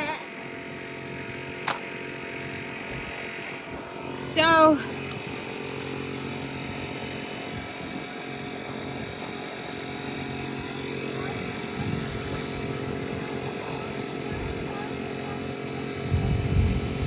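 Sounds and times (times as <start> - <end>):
air compressor motor hum: 0.0 - 17.0.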